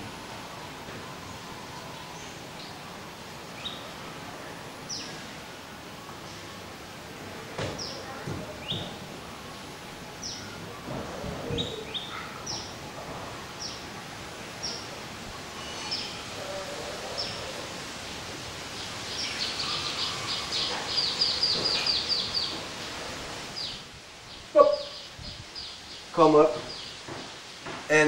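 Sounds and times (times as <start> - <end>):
birds chirping: 0.4 - 28.0.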